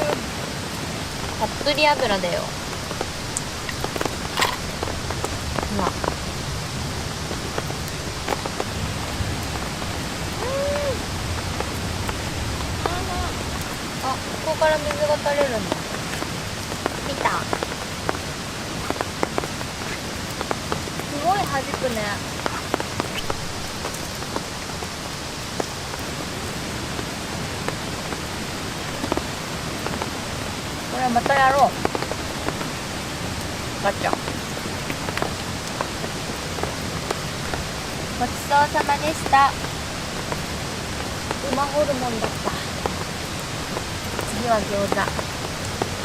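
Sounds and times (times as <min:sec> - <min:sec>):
rain pattering on tent fabric: 0:00.0 - 0:46.0.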